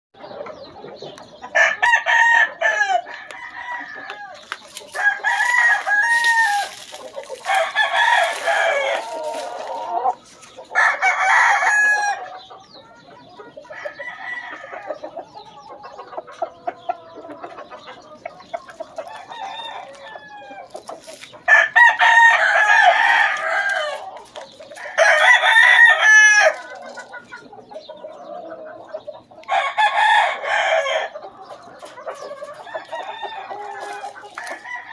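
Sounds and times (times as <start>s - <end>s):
chickens clucking: 0.2s - 34.9s
roosters crowing: 1.4s - 34.9s.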